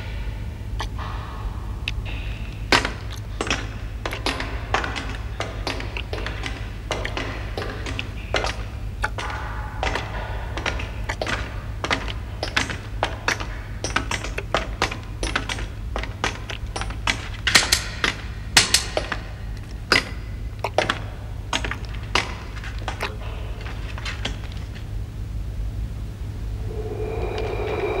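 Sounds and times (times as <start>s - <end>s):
low steady hum: 0.0s - 28.0s
irregular clicks and knocks: 1.8s - 24.8s.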